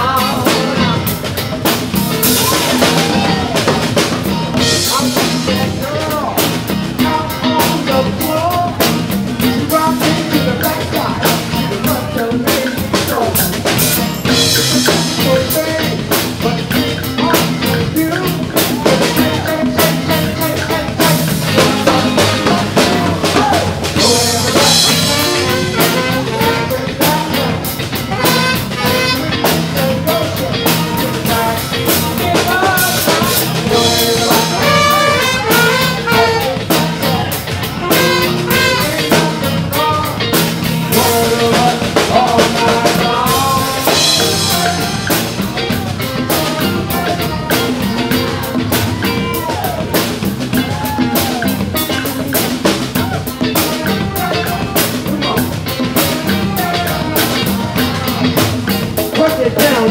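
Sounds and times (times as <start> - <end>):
drum kit steady beat: 0.0 - 59.9
electric guitar: 0.0 - 59.9
person singing: 0.0 - 59.9.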